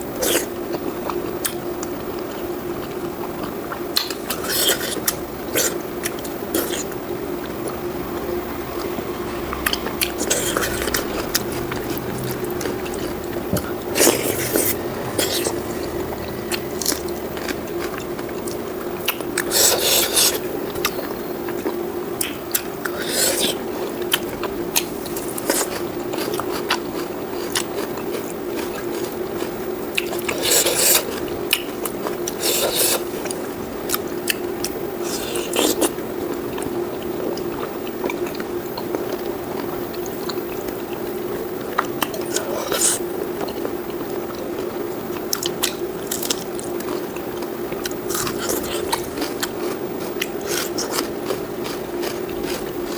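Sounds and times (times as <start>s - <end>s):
faint steady hum: 0.0s - 52.9s
wet chewing and mouth clicks: 2.8s - 7.8s, 8.8s - 41.1s, 41.7s - 52.9s.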